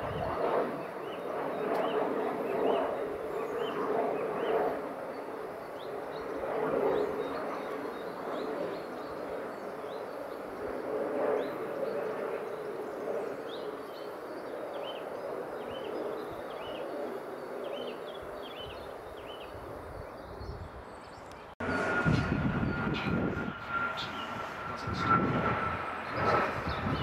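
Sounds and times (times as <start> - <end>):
light aircraft engine drone: 0.0 - 27.0.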